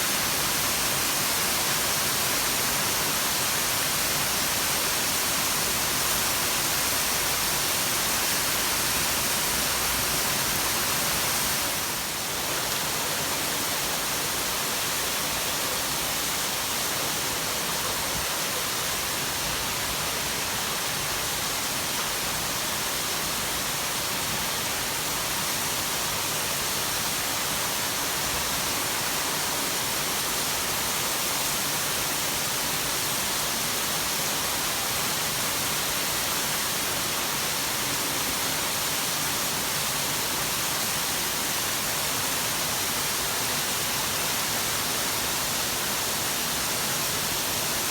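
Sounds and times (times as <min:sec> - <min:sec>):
heavy rain hiss: 0:00.0 - 0:47.9.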